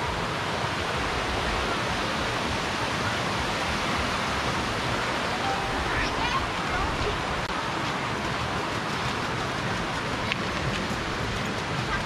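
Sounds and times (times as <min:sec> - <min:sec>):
stream running down cascades: 0:00.0 - 0:12.0.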